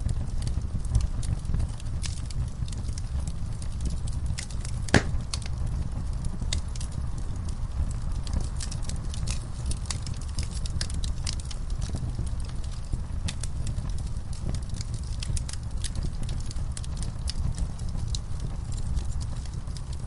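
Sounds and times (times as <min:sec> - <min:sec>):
low rumble of flames: 0:00.0 - 0:20.0
wood fire snaps and pops: 0:00.0 - 0:20.0.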